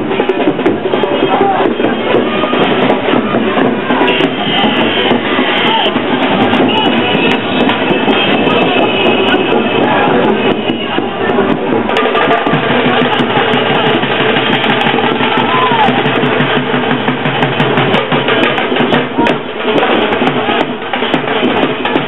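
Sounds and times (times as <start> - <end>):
drums beating fast rhythm: 0.0 - 22.0
procession band music: 0.0 - 22.0.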